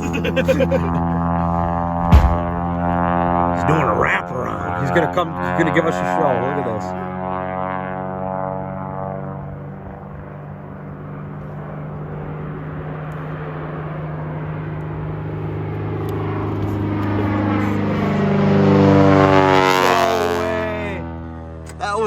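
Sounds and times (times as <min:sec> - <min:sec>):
propeller airplane flying: 0:00.0 - 0:22.0.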